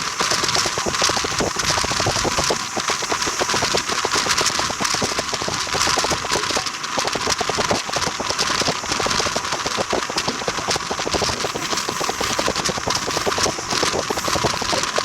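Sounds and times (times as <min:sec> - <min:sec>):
train clattering: 0:00.0 - 0:08.3, 0:08.9 - 0:15.0
steady rushing hiss: 0:00.0 - 0:15.0.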